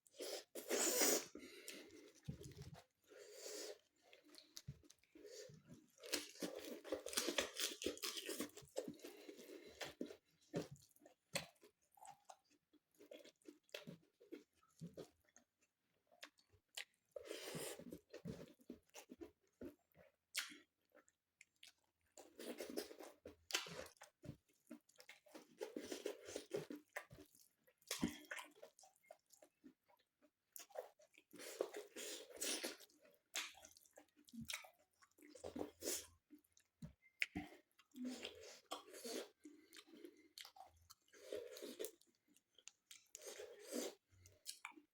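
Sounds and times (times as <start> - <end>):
chewing and crunching food: 0.0 - 44.9.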